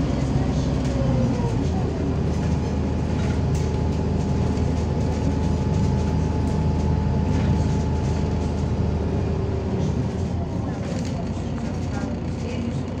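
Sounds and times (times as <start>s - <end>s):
bus diesel engine: 0.0s - 13.0s
low road noise rumble: 0.0s - 13.0s.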